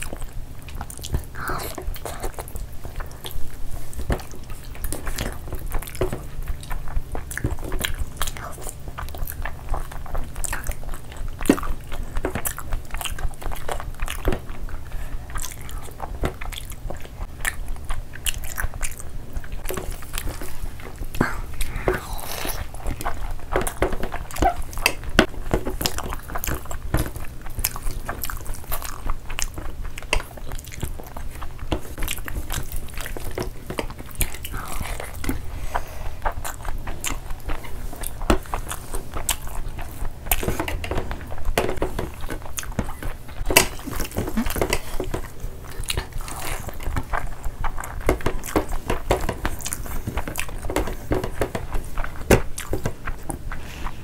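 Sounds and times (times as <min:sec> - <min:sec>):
people chewing food: 0:00.0 - 0:54.0.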